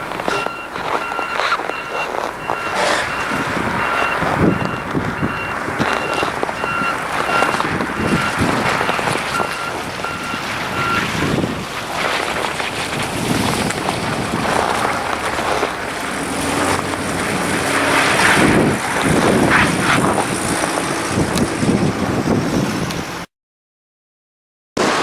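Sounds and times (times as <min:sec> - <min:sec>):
strong gusting wind on microphone: 0:01.1 - 0:23.3.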